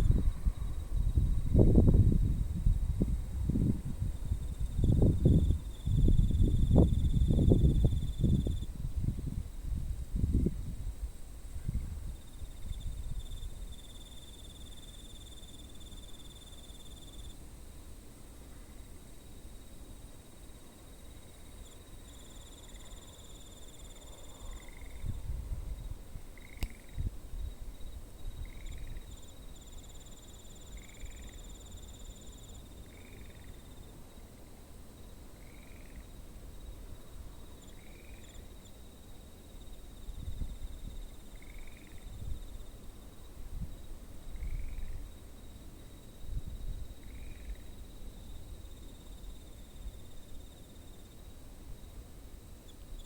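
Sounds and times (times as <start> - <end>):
insects trilling: 4.2 - 8.8, 11.4 - 25.2, 25.8 - 53.0.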